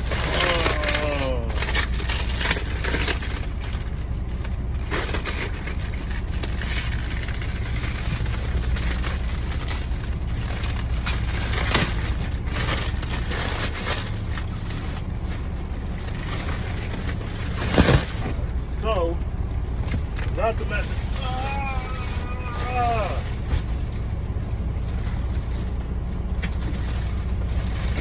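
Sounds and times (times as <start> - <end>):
knocks and rustles of handling: 0.0 - 18.6, 22.0 - 28.0
engine idling hum: 0.0 - 28.0.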